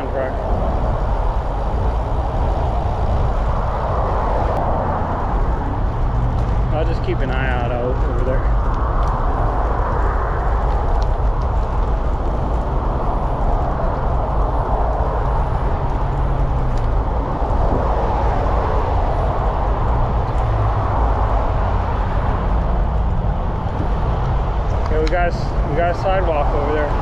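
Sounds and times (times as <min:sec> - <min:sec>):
road traffic noise: 0:00.0 - 0:27.0
wind on microphone: 0:00.0 - 0:27.0.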